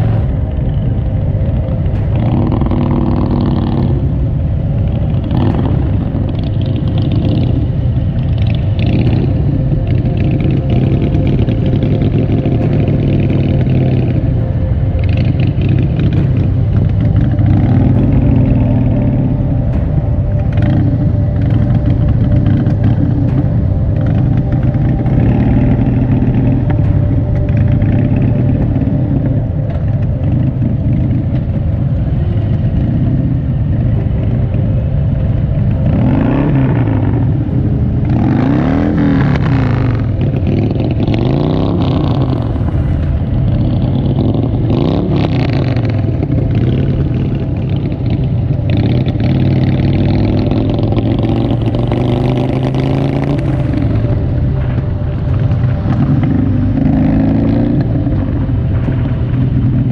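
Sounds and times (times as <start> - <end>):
motorcycle engines running: 0.0 - 59.9
wind and road noise: 0.0 - 59.9.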